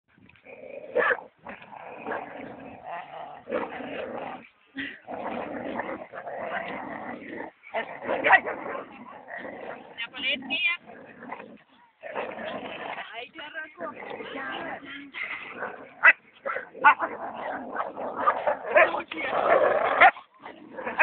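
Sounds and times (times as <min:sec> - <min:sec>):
dogs growling and snarling: 0:00.2 - 0:21.0.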